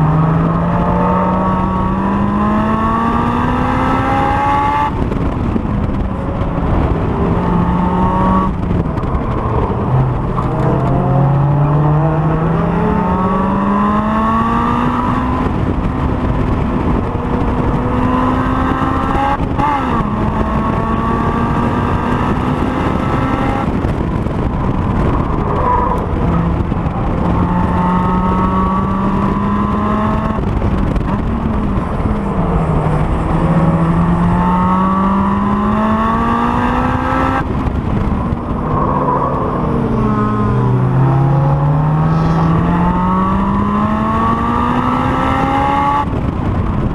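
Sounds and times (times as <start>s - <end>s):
car engine revving: 0.0s - 46.9s
wind and road noise: 0.0s - 46.9s.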